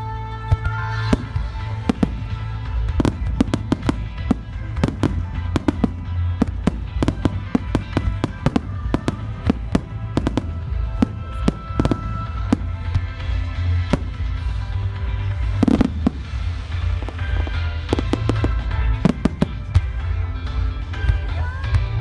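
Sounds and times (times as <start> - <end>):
music playing: 0.0 - 22.0.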